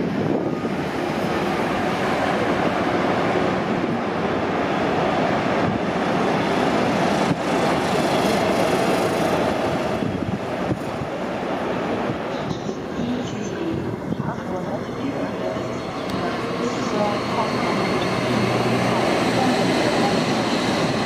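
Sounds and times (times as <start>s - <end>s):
train rolling past: 0.0s - 21.0s.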